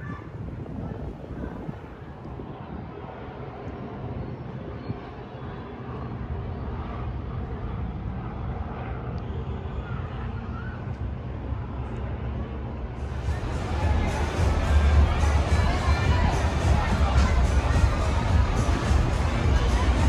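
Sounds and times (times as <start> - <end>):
faint distant voices: 0.0 - 20.0.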